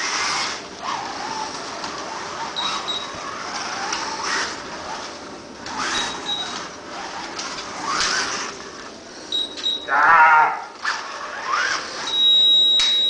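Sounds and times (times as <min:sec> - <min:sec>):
slot car motor whining: 0:00.0 - 0:12.9.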